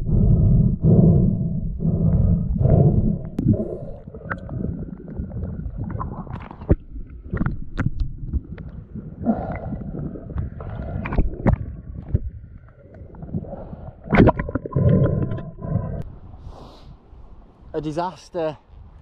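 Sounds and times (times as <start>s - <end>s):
underwater water rumble: 0.0s - 16.4s.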